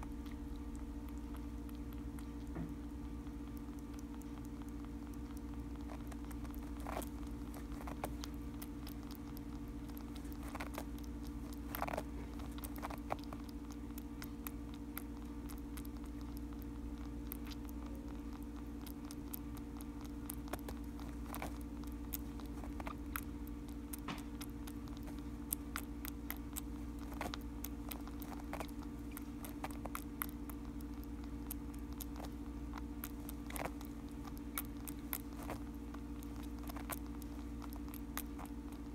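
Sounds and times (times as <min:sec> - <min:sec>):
baby rabbit suckling clicks: 0:00.0 - 0:38.9
steady low hum: 0:00.0 - 0:38.9.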